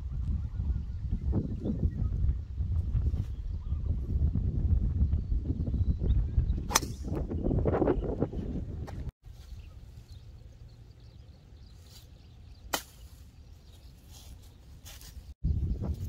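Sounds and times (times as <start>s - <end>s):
low wind rumble: 0.0s - 13.7s, 14.6s - 16.0s.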